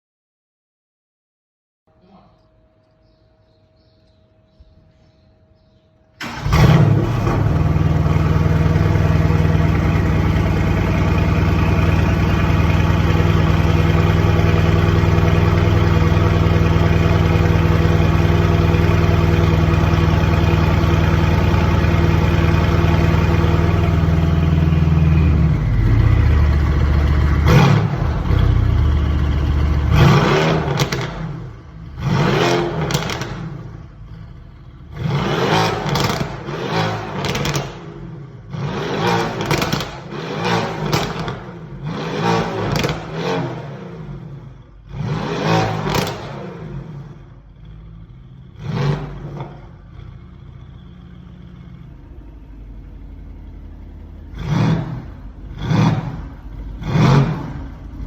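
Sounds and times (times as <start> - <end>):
car engine starting and idling: 3.8 - 58.0
engine throttle blips: 5.5 - 16.7, 17.3 - 58.0.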